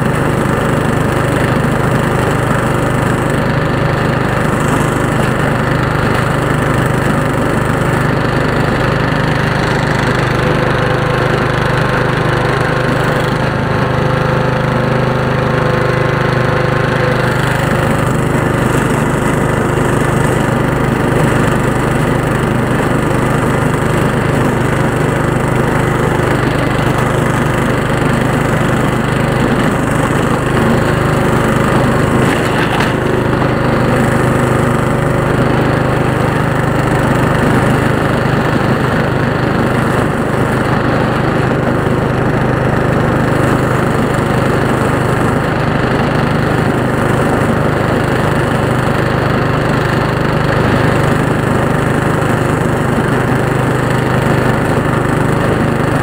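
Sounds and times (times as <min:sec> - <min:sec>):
tractor engine drone: 0:00.0 - 0:56.0.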